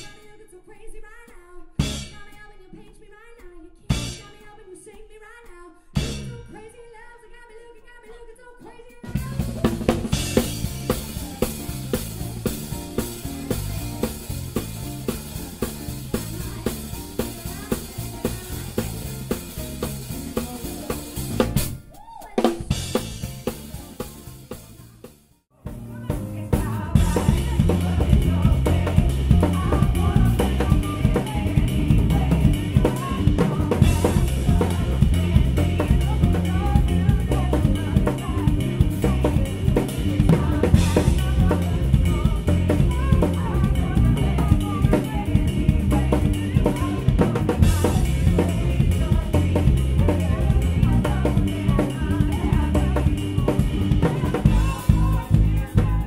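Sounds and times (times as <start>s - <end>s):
drum kit groove: 0.0s - 0.4s, 1.8s - 2.5s, 3.8s - 6.6s, 9.0s - 56.0s
full band playing: 1.8s - 2.4s, 3.9s - 4.4s, 6.0s - 6.5s, 9.0s - 56.0s.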